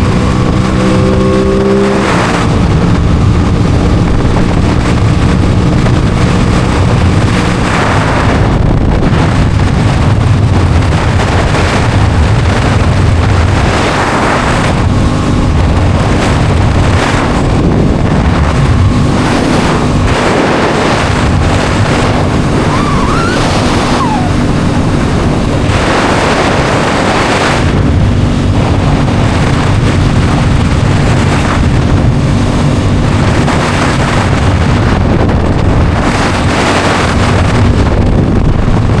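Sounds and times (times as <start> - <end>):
motorcycle engine running: 0.0 - 39.0
wind noise on microphone: 0.0 - 39.0.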